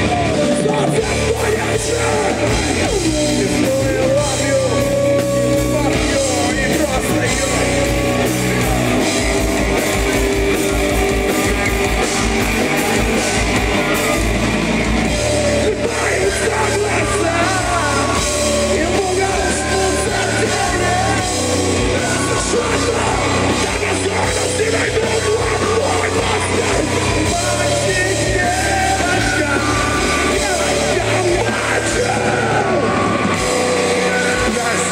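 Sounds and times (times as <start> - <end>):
live heavy rock band: 0.0 - 34.9.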